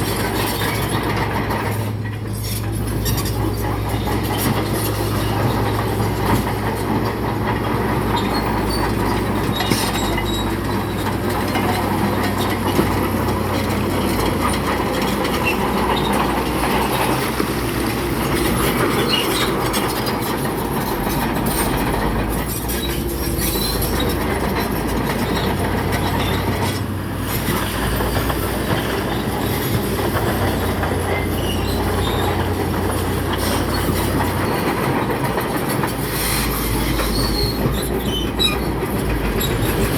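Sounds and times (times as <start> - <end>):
bulldozer diesel engine running: 0.0 - 39.9
steel tracks clanking and squealing: 0.0 - 39.9.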